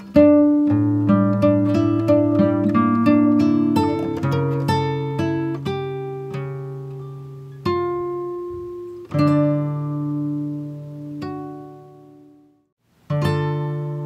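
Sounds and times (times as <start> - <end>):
plucked string instrument music: 0.0 - 14.0.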